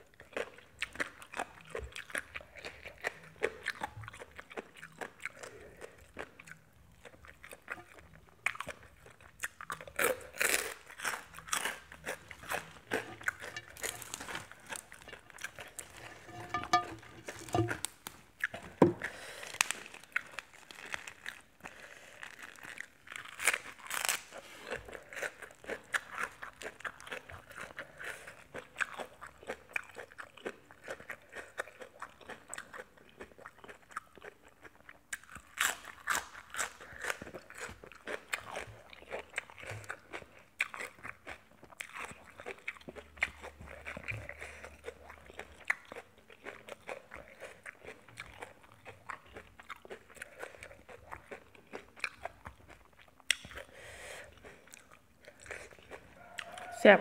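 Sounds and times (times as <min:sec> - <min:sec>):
person chewing crisp food: 0:00.0 - 0:56.8.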